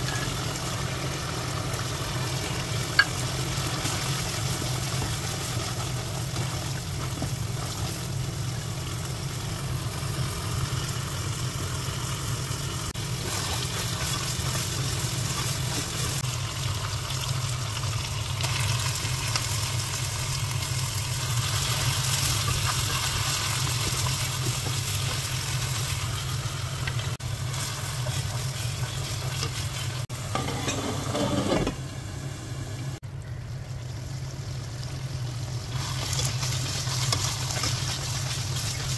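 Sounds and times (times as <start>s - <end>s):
curry sizzling and bubbling in a pan: 0.0s - 30.8s, 33.0s - 38.9s.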